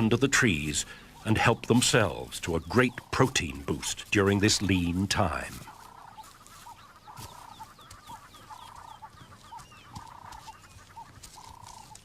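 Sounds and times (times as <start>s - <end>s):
high falling bird chirps: 0.0s - 12.0s.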